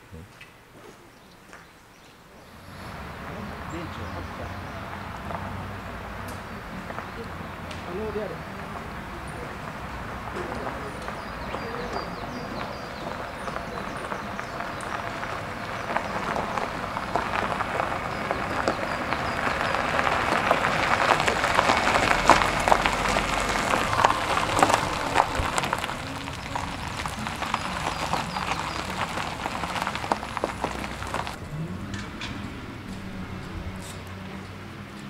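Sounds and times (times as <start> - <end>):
faint engine hum: 2.5 - 35.0
tyres crunching over gravel: 2.5 - 35.0.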